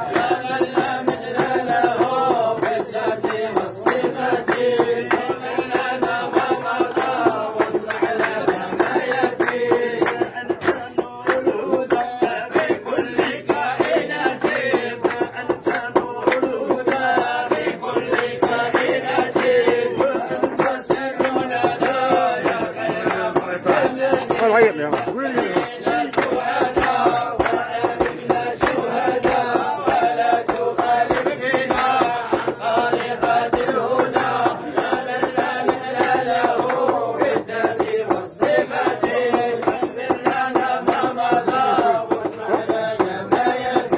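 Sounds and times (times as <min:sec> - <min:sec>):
men singing devotional chant: 0:00.0 - 0:43.9
sharp percussive strokes: 0:00.0 - 0:43.9.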